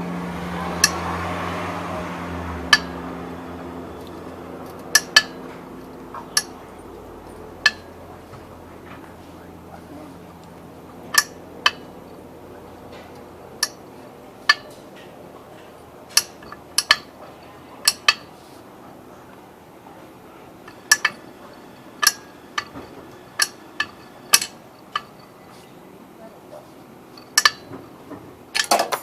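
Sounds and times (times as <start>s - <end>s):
metal tools and tubing clinking: 2.6s - 18.6s, 19.9s - 25.9s, 26.5s - 29.0s.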